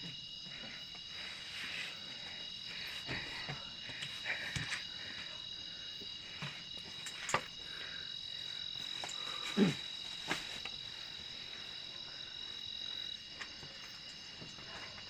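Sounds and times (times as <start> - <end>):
night insects chirping: 0.0 - 15.0.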